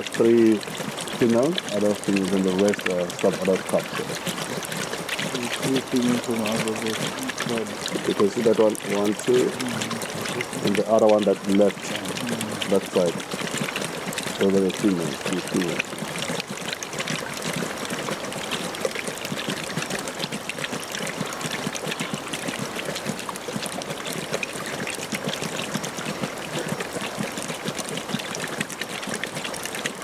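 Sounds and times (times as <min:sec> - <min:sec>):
lions lapping water: 0:00.0 - 0:30.0.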